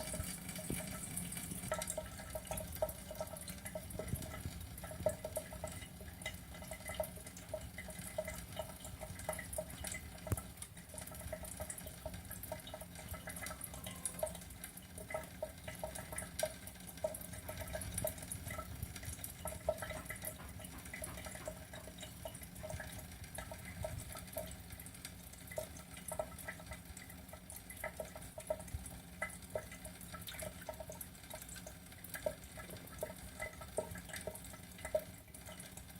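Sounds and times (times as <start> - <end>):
water trickling and dripping: 0.0 - 35.9.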